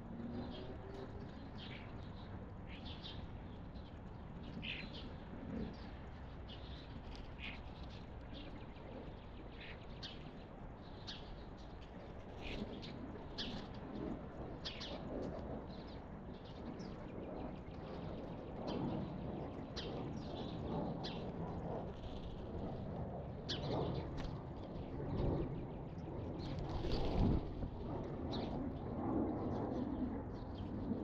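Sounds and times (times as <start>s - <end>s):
low outdoor background hum: 0.0s - 31.0s.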